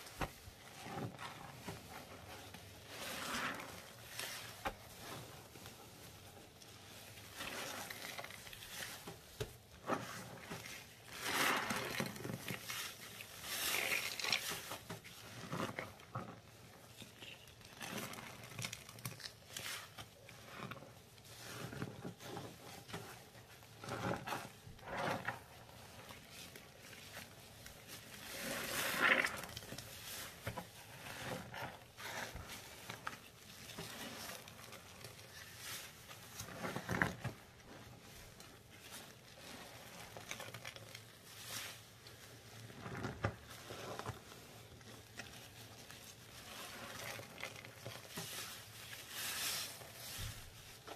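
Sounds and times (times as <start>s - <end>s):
gloved hands squishing wet paste: 0.0s - 50.9s.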